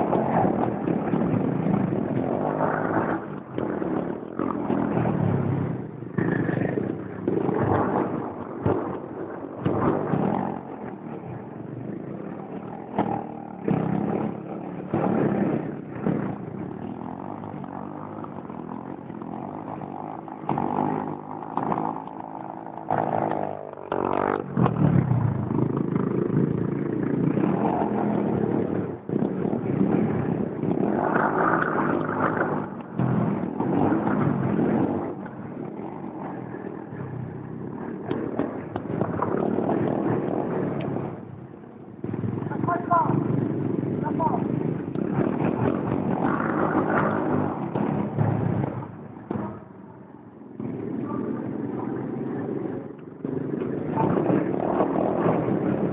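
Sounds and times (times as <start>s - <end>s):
small motorbike engine revving: 0.0s - 49.8s, 50.4s - 55.9s.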